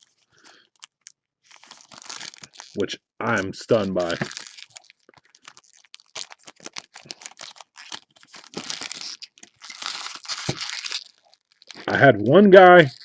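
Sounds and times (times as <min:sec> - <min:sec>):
wrappers crinkling and tearing: 0:00.0 - 0:13.0.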